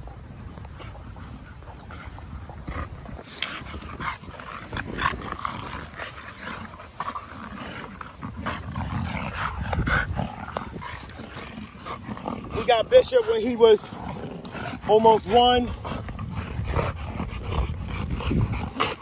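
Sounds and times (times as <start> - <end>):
dogs growling: 0.0 - 19.0.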